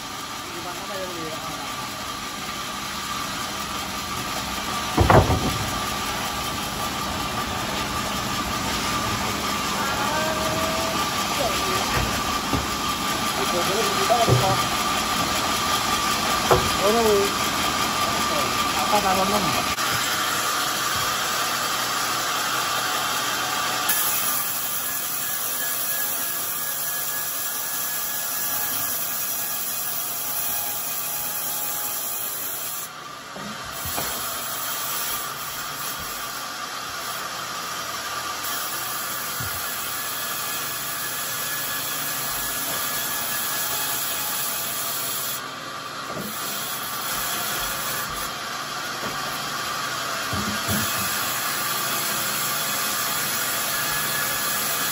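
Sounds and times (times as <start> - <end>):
band saw cutting wood: 0.0 - 54.9.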